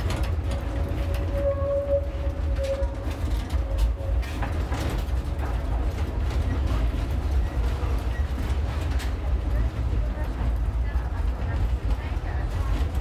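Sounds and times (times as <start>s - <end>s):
knocks clicks and creaks: 0.0s - 13.0s
tram rumbling: 0.0s - 13.0s
tram whine: 0.0s - 13.0s.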